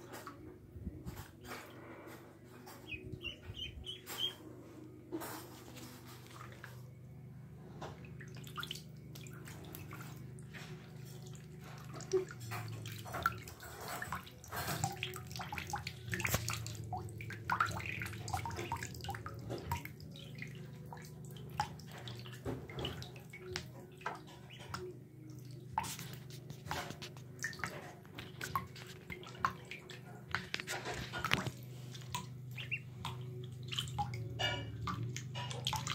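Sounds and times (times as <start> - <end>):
low steady hum: 0.0 - 35.9
ducklings splashing in water: 2.7 - 4.4, 5.4 - 6.8, 7.9 - 35.9.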